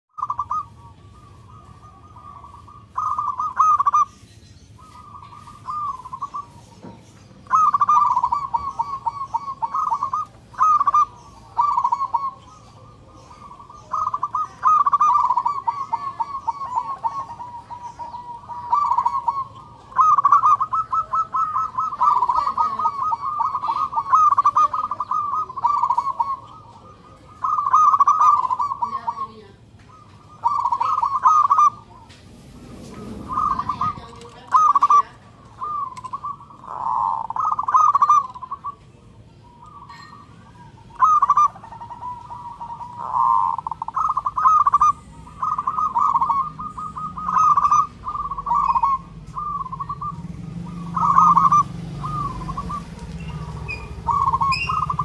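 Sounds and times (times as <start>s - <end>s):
dove trilled cooing: 0.1s - 55.0s.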